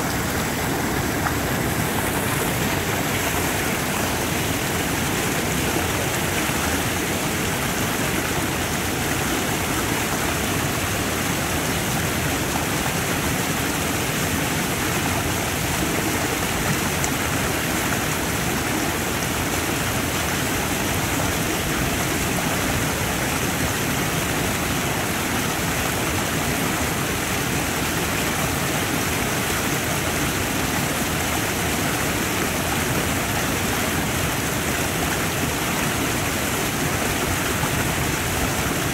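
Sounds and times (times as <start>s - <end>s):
creek rushing over rapids: 0.0s - 38.9s.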